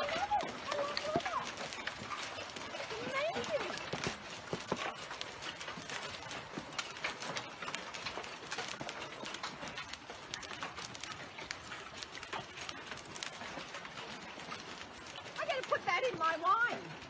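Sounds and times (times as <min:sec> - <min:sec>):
hailstones pelting pool and paving: 0:00.0 - 0:17.0.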